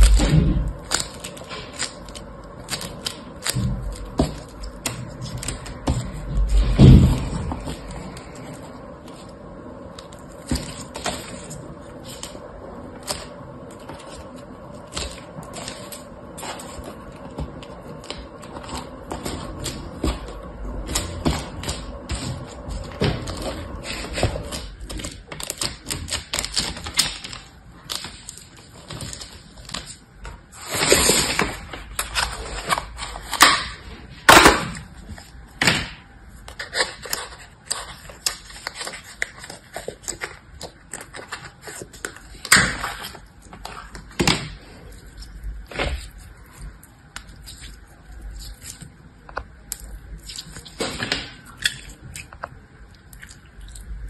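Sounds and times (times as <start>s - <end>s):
crunchy slime crackling: 0.0s - 54.0s
slime squishing: 0.0s - 54.0s.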